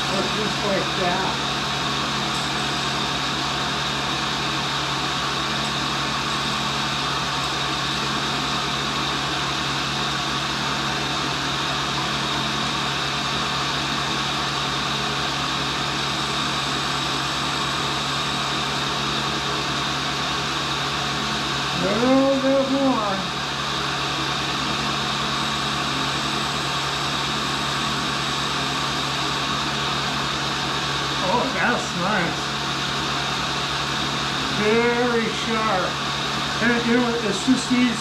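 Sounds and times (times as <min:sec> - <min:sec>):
grinder humming with high whine: 0:00.0 - 0:38.0.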